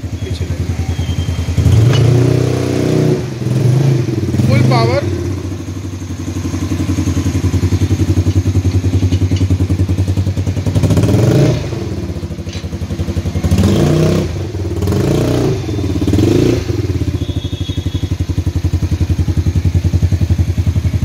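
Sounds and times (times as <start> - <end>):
quad bike engine running and revving: 0.0 - 21.0.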